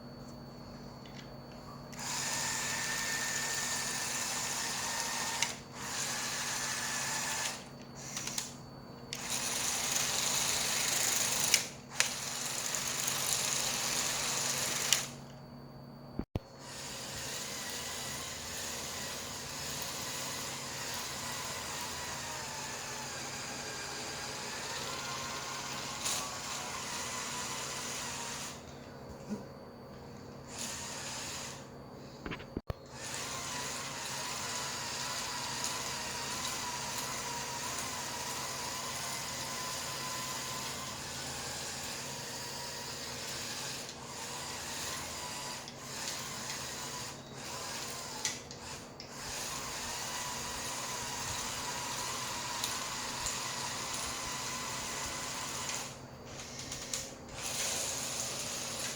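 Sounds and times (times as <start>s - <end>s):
toy electric motors whirring: 1.9s - 15.4s, 16.6s - 28.8s, 30.4s - 58.9s.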